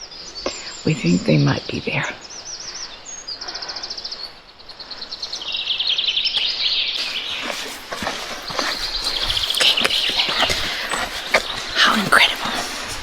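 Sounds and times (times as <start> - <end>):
songbirds singing rapid trills: 0.0 - 13.0.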